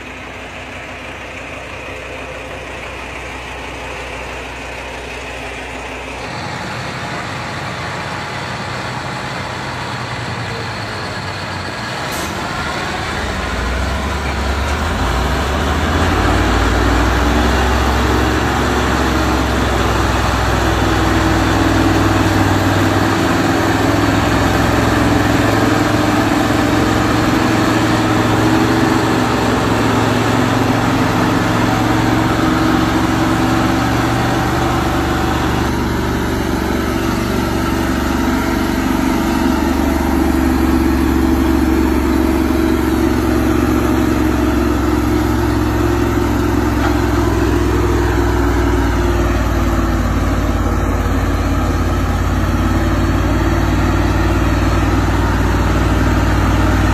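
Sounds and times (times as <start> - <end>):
heavy diesel truck engine: 0.0 - 56.9.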